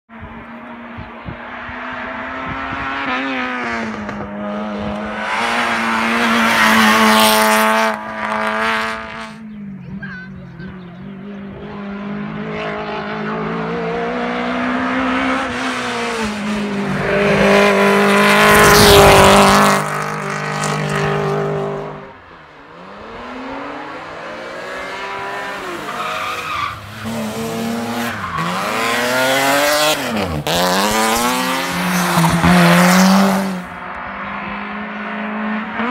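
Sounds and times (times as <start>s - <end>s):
race car engines revving: 0.1s - 35.9s.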